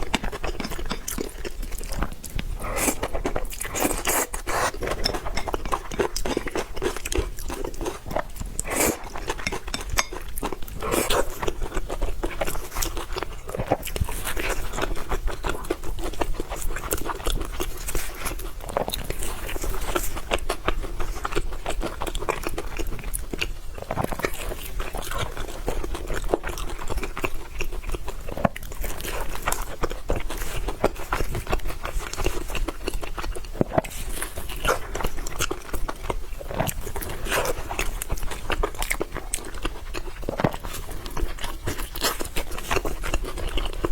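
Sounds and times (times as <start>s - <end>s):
close chewing and crunching: 0.0s - 43.9s.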